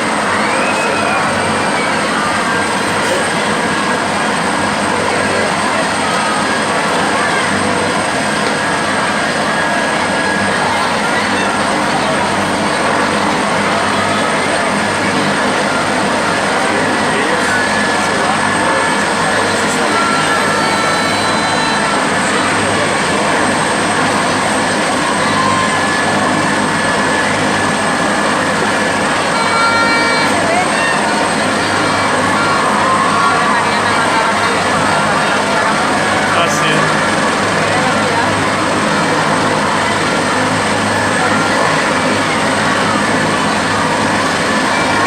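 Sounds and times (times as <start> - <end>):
helicopter engine and rotor: 0.0 - 45.0.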